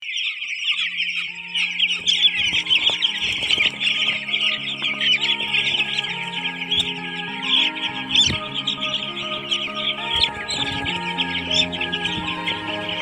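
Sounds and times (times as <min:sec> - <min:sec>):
chicks peeping: 0:00.0 - 0:13.0
background music with held notes: 0:00.8 - 0:13.0.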